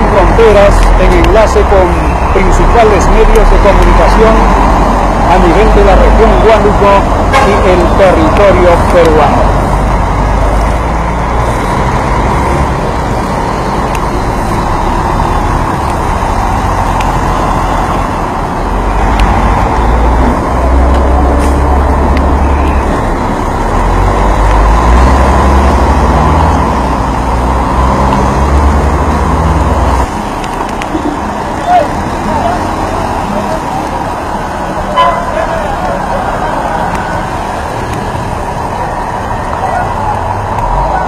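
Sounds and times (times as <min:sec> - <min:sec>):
traffic engines din: 0:00.0 - 0:41.0.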